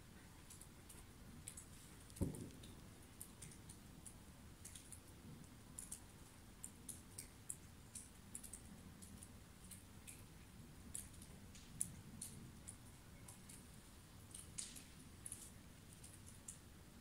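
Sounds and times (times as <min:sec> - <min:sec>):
faint high-pitched ticks: 0:00.3 - 0:16.7.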